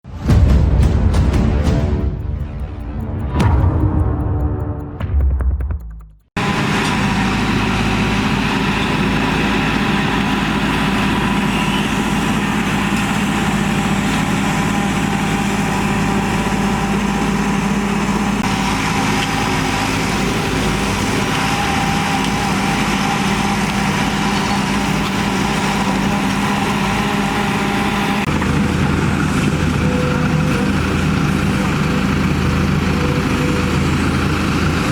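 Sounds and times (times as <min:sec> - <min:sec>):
heavy diesel machinery running: 0:06.4 - 0:34.9.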